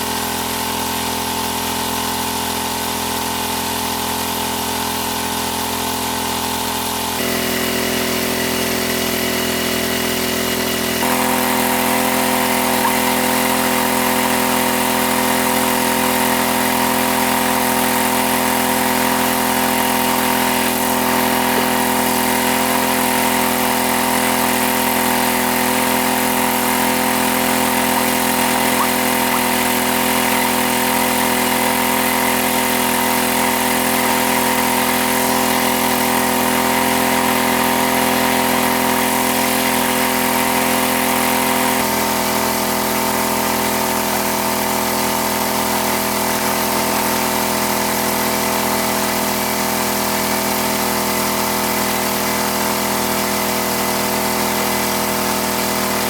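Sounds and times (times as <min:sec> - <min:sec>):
motor humming steadily: 0:00.0 - 0:56.0.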